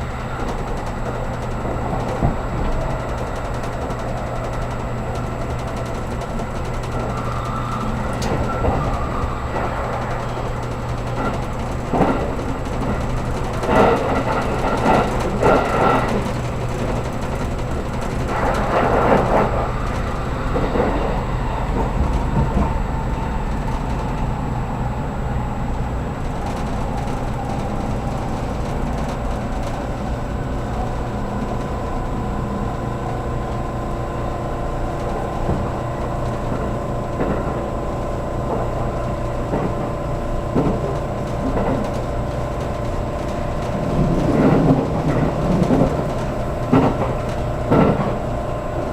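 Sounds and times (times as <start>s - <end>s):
steady whine: 0.0s - 48.9s
train cabin rumble: 0.0s - 48.9s.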